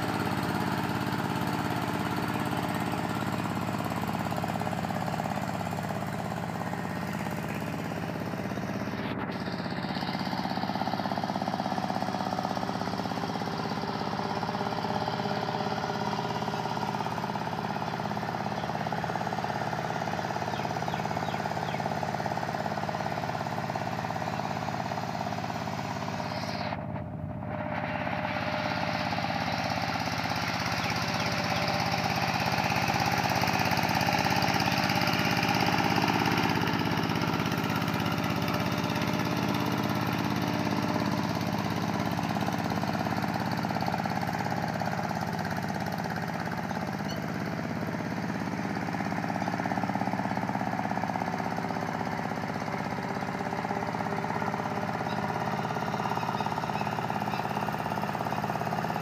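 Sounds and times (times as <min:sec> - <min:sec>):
diesel tractor engine chugging: 0:00.0 - 0:59.0.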